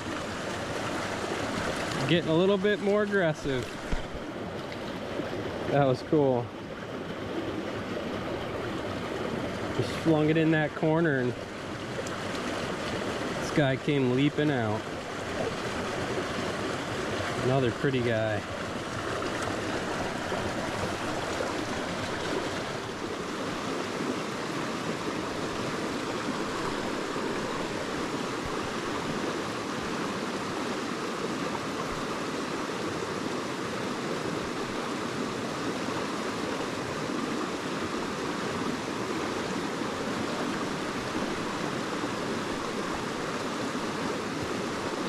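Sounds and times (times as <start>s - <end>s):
creek water rushing: 0.0s - 45.0s.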